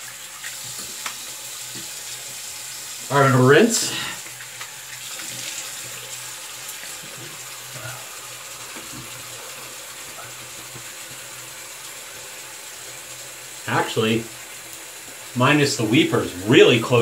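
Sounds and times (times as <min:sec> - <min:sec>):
bathroom tap running: 0:00.0 - 0:17.0
face rinsed with water: 0:00.0 - 0:17.0.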